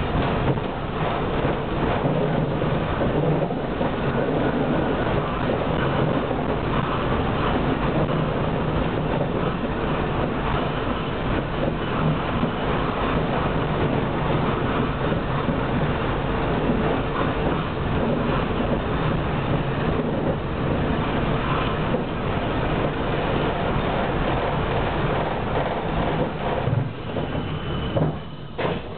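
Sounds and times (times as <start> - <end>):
tram wheels rumbling on rails: 0.0 - 28.9.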